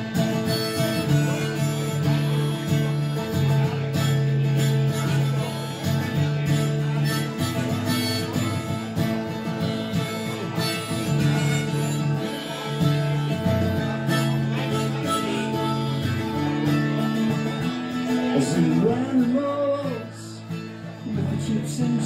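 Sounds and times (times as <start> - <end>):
harmonica sustained notes: 0.0 - 18.4
acoustic guitar strumming: 0.0 - 22.0.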